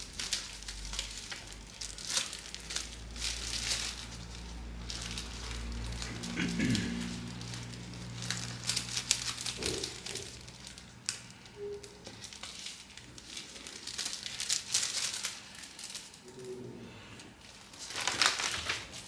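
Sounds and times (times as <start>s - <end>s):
small tools clicking and tapping: 0.0s - 16.6s.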